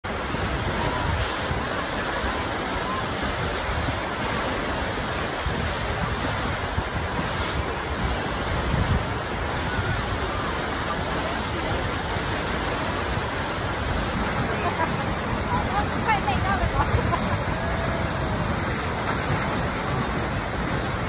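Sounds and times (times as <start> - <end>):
waterfall rushing: 0.1 - 21.0.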